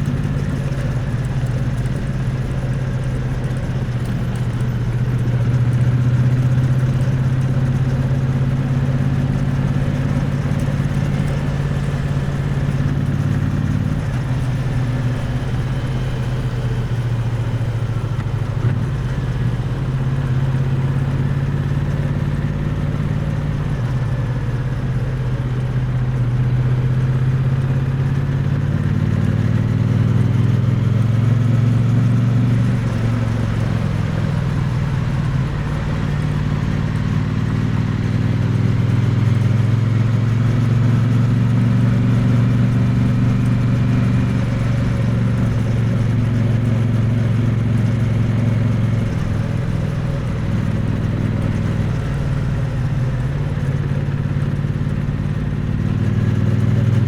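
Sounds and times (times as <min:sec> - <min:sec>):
motorcycle engine at low revs: 0:00.0 - 0:57.0.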